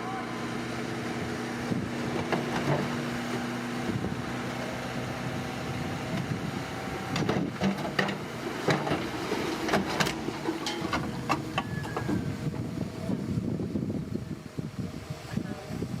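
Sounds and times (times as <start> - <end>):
construction machine engine running: 0.0 - 16.0.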